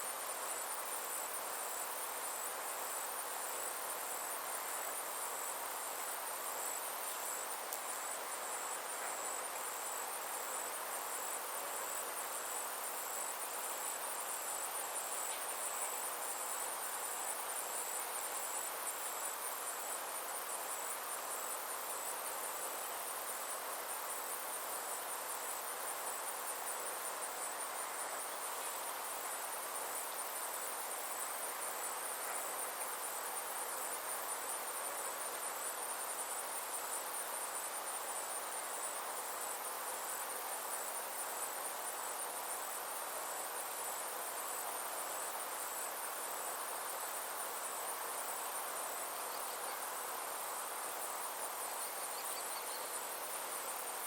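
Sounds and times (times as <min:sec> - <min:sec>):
insects trilling: 0:00.0 - 0:54.0
soft outdoor hiss: 0:00.0 - 0:54.0.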